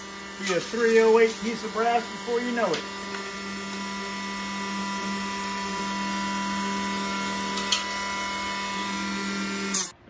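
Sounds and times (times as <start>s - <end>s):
chop saw motor humming: 0.0s - 10.0s.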